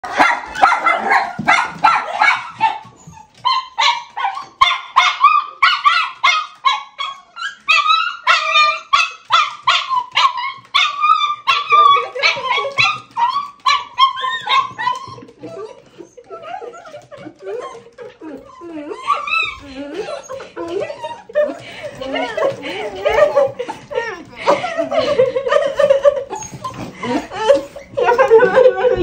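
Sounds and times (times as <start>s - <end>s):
dog whining and yelping: 2.1s - 24.2s, 25.8s - 29.0s.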